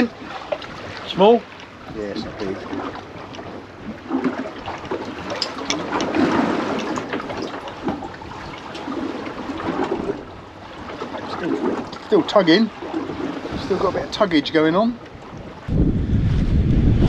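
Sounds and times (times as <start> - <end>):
water splashing against hull: 0.0 - 17.0.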